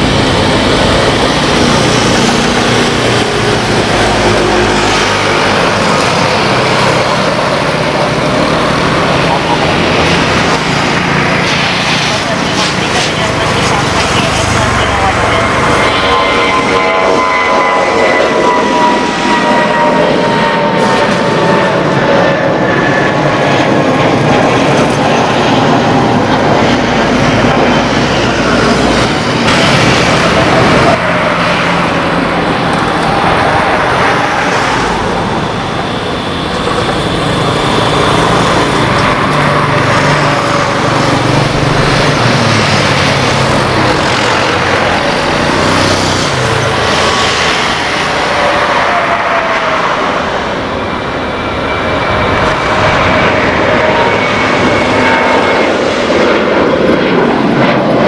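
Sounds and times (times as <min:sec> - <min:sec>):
jet airliner engines at takeoff: 0:00.0 - 0:58.0.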